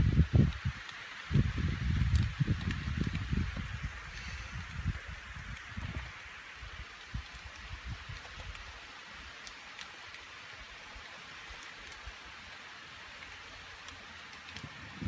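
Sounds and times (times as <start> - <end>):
single raindrops ticking: 0.0 - 15.0
steady rain hiss: 0.0 - 15.0.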